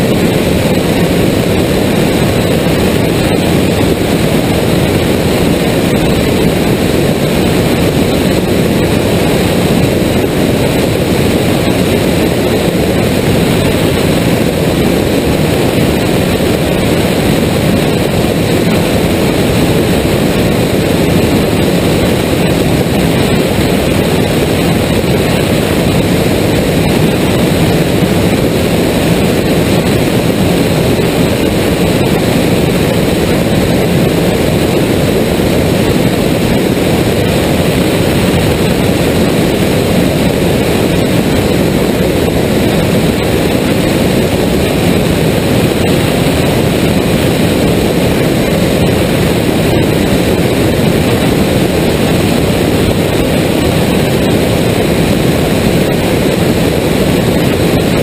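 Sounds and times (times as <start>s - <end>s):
airflow rushing: 0.0s - 58.0s
light aircraft engine drone: 0.0s - 58.0s.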